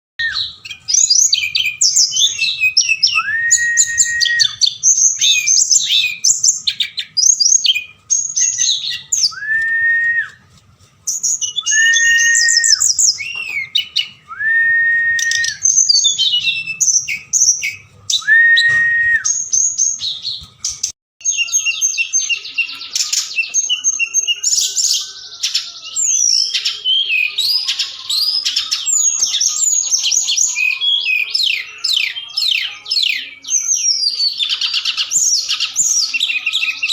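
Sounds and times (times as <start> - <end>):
bird chirps and trills: 0.2 - 9.4, 11.1 - 14.2, 19.3 - 36.9
whistled bird notes: 0.2 - 10.4, 11.1 - 20.2, 21.2 - 36.9.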